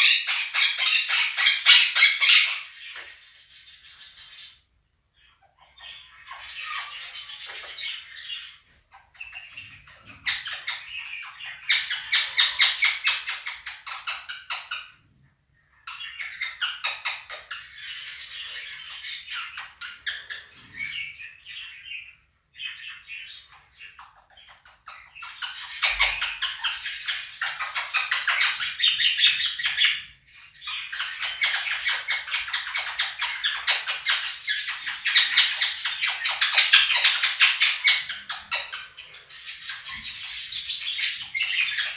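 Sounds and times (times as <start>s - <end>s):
parrots squawking loudly: 0.0s - 4.6s, 5.3s - 15.0s, 22.6s - 41.9s
budgerigars chirping and warbling: 0.0s - 41.9s.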